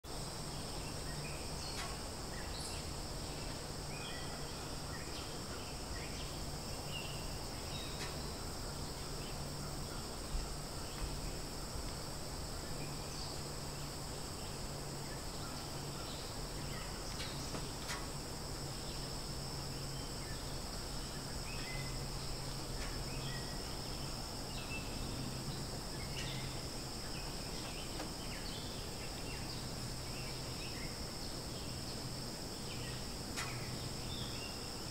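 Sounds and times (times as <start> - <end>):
insect chorus: 0.1 - 34.9
low steady hum: 0.1 - 34.9.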